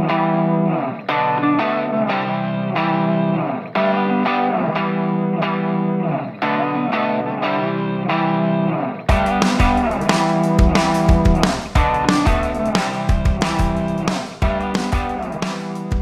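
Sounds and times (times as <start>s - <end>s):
electric guitar ringing chords: 0.0s - 16.0s.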